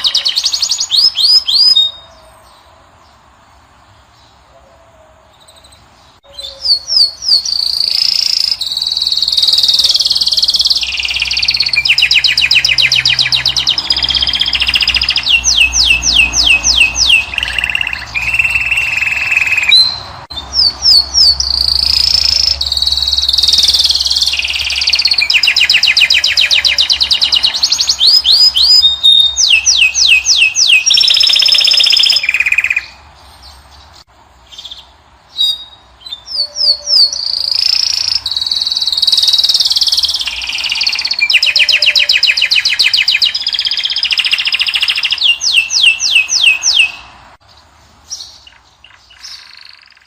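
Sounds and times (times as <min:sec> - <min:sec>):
goldfinch twittering song: 0:05.4 - 0:50.0.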